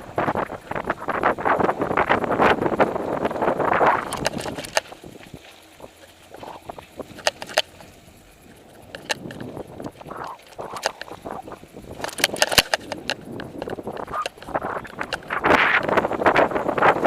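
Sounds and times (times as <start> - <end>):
wind rush: 0.0 - 7.2, 9.0 - 17.0
bike clicks and rattles: 0.0 - 17.0
bike tyres rolling on dirt: 0.0 - 17.0.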